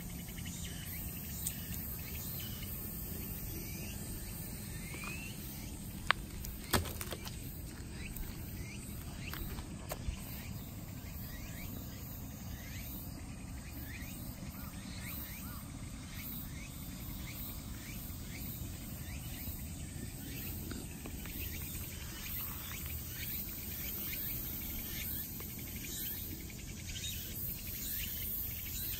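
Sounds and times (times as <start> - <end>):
insects chirping: 0.0 - 28.9.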